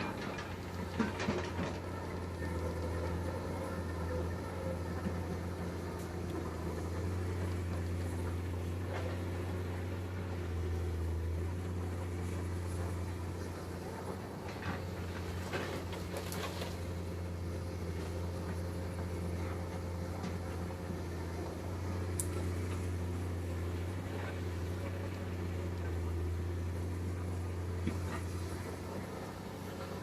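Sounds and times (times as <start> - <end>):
excavator diesel engine drone: 0.0 - 30.0.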